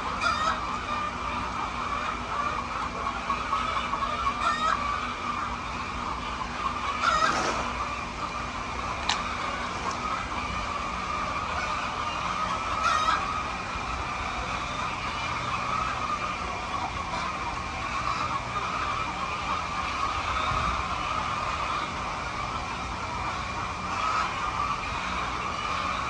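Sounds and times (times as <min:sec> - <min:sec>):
chickens calling: 0:00.0 - 0:26.0.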